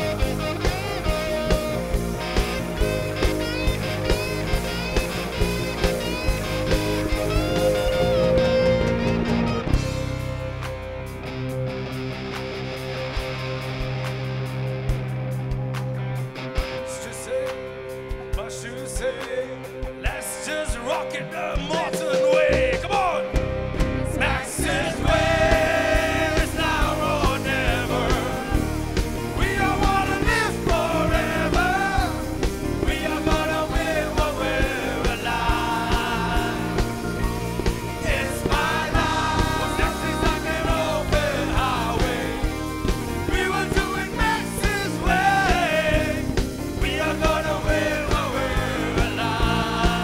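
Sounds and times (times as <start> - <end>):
rock song with singing: 0.0 - 50.0.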